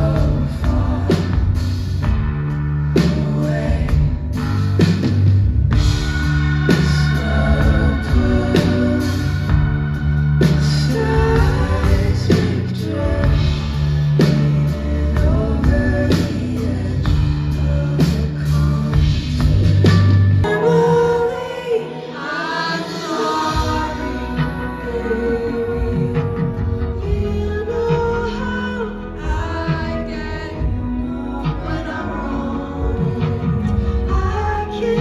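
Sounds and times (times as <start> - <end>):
woman singing lead: 0.0 - 2.2, 2.9 - 5.1, 5.8 - 35.0
drums: 0.0 - 35.0
heavy sustained bass: 0.0 - 35.0.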